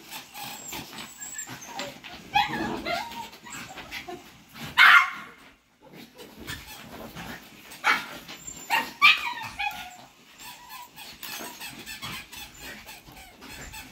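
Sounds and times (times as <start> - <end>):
small dogs barking and yipping: 0.0 - 5.6, 6.2 - 13.9.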